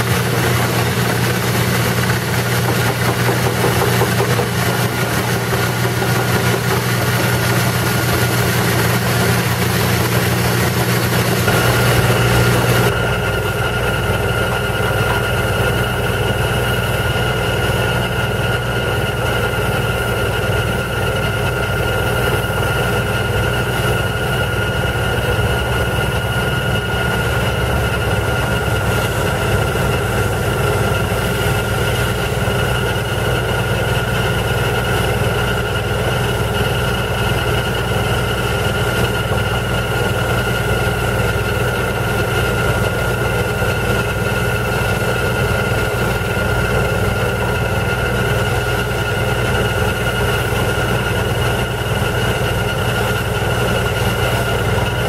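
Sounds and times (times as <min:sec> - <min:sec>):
high whine: 0:00.0 - 0:55.0
pneumatic drilling rig drone: 0:00.0 - 0:55.0.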